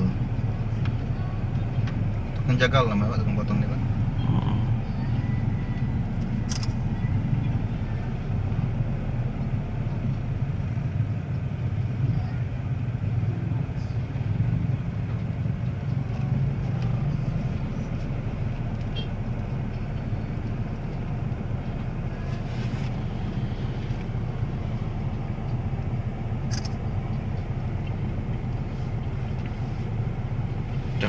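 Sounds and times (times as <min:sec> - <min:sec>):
car engine idling: 0:00.0 - 0:31.0
motorcycles idling: 0:00.0 - 0:31.0.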